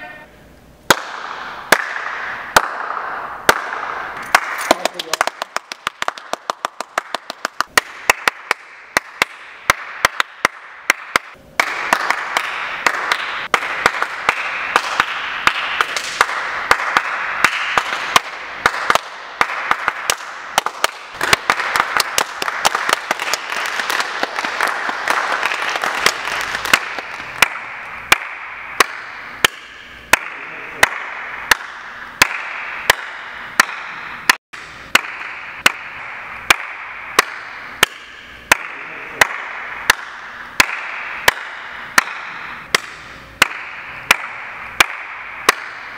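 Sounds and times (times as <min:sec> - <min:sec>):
hand claps: 0:00.9 - 0:34.4, 0:35.0 - 0:45.9.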